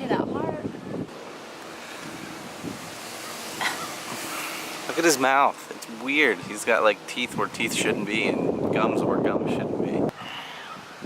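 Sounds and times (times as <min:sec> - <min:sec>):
wind noise on microphone: 0:00.0 - 0:01.2, 0:01.8 - 0:04.9, 0:06.0 - 0:11.0.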